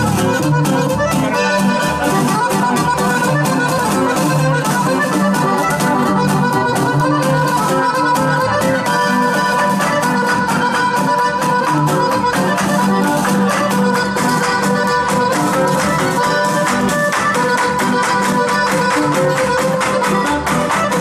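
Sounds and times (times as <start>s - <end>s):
accordion: 0.0s - 21.0s
percussion hits: 0.0s - 21.0s
strummed guitar: 0.0s - 21.0s.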